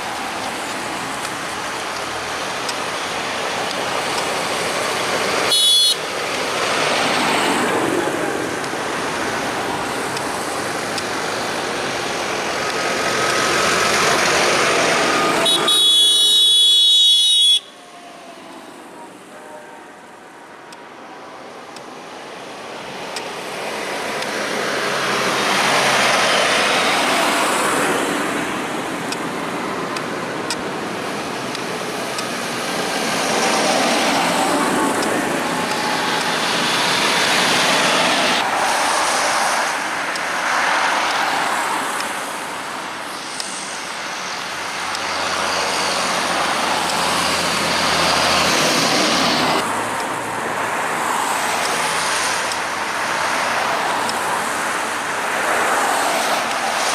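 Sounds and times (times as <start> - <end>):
tractors driving past: 0.0 - 16.6, 22.9 - 56.9
cars driving past: 0.0 - 17.7, 22.8 - 56.9.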